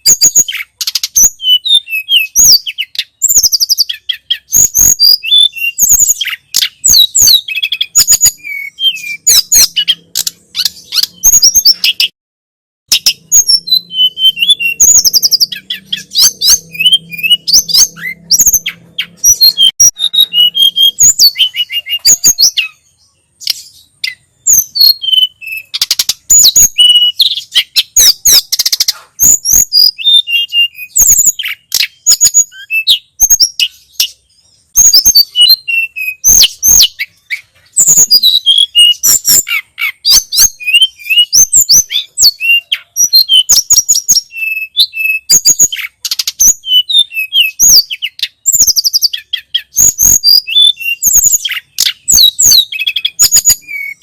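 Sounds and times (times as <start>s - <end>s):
songbird singing: 0.0s - 12.2s, 12.9s - 54.0s.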